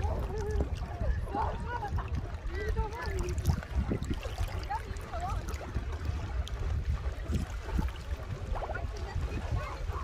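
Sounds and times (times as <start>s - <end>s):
sea waves: 0.0s - 10.0s
wind rumbling on microphone: 0.0s - 10.0s.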